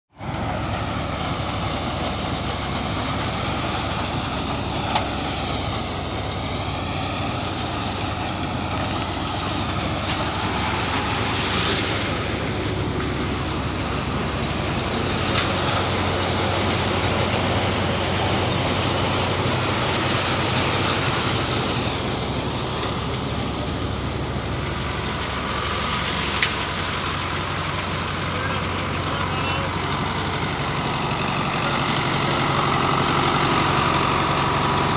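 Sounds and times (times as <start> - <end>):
tractor engine running: 0.2 - 34.9
thresher mechanical rush: 0.3 - 34.9.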